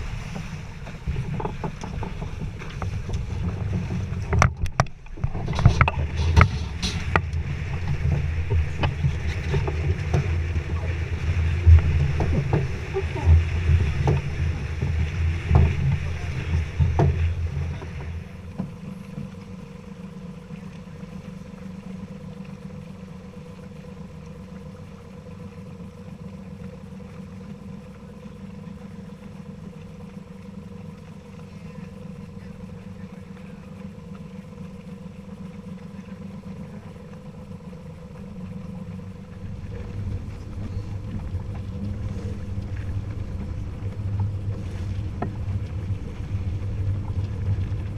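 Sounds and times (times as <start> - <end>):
boat engine drone: 0.0 - 47.9
faint steady tones: 0.0 - 47.9
low rumble: 0.0 - 47.9.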